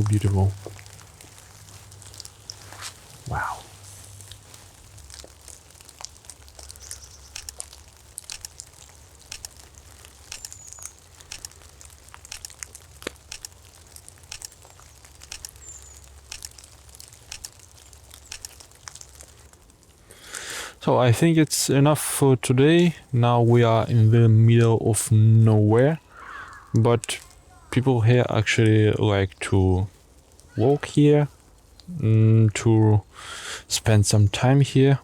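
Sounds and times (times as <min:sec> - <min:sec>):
soft crackling and ticking: 0:00.0 - 0:35.0.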